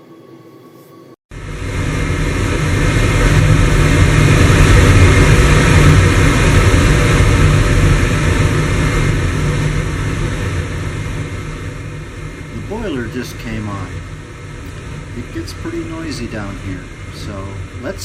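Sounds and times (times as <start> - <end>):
boiler roaring: 1.3 - 18.0.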